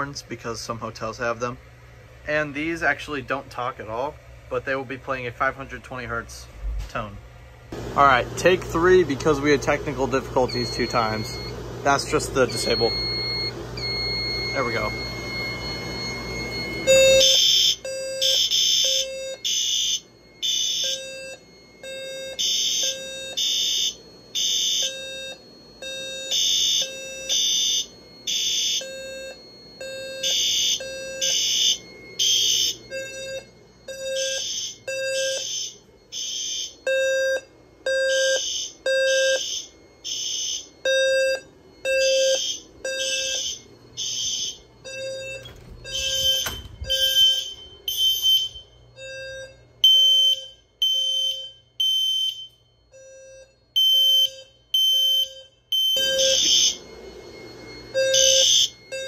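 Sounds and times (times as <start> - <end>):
fire alarm horns pulsing: 0.0 - 59.0
single-pitch alarm beep: 10.4 - 59.0.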